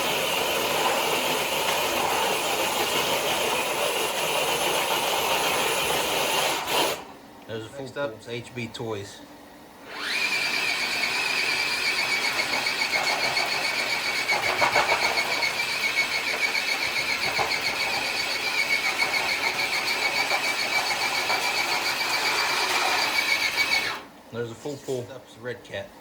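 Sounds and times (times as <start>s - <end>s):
toy truck electric motor whining: 0.0s - 7.1s, 9.9s - 24.1s.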